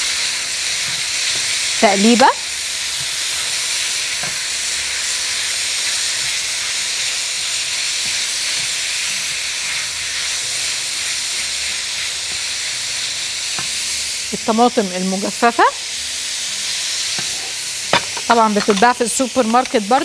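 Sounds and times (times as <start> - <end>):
chicken sizzling in oil: 0.0 - 20.0
spatula stirring in wok: 2.6 - 20.0.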